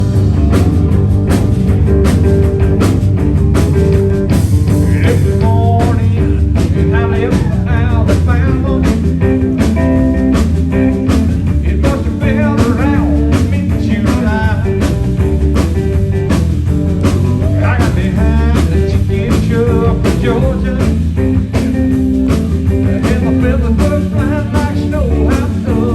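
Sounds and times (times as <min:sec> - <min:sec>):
blues-rock band playing: 0:00.0 - 0:25.9
drums keeping a steady beat: 0:00.0 - 0:25.9.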